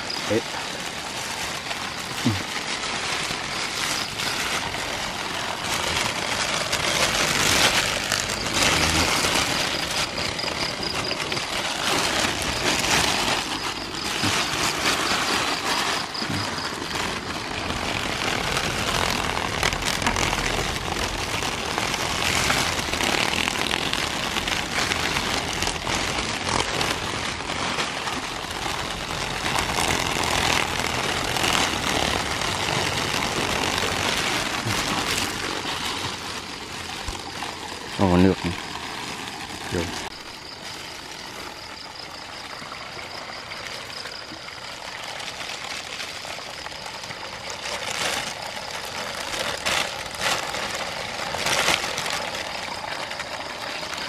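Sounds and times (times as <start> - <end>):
plastic bag crinkling: 0.0 - 54.0.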